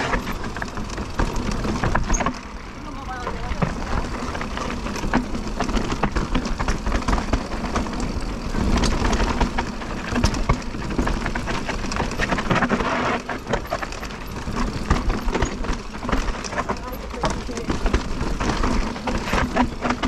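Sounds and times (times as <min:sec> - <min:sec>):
bike rattling over rocks: 0:00.0 - 0:20.0
steady rushing noise: 0:00.0 - 0:20.0.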